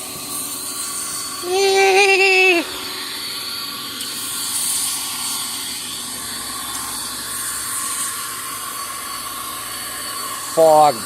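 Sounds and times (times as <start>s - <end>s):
aerosol can spraying hiss: 0.0s - 2.6s, 4.0s - 10.9s.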